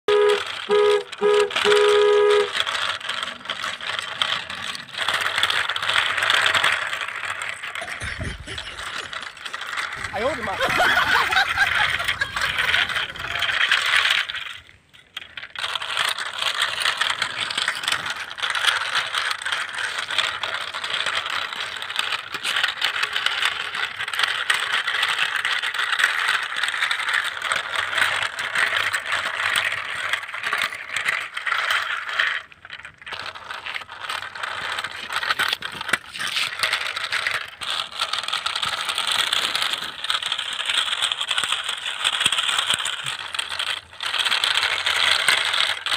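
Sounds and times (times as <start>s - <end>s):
plastic toy trucks rattling on ground: 0.1s - 45.9s.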